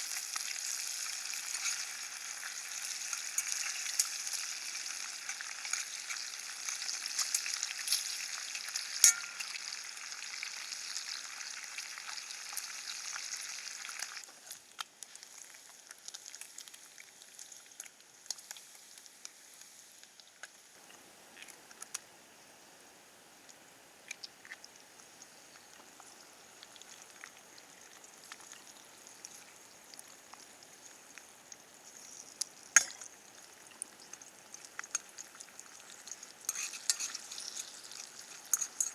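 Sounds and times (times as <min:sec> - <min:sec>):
food sizzling in a frying pan: 0:00.0 - 0:20.9, 0:24.1 - 0:38.9
crackles and ticks: 0:00.0 - 0:22.1, 0:23.4 - 0:38.9.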